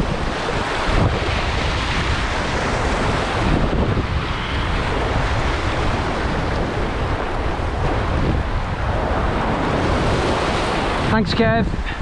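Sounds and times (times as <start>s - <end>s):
surf washing over rocks: 0.0s - 12.0s
wind buffeting microphone: 0.0s - 12.0s.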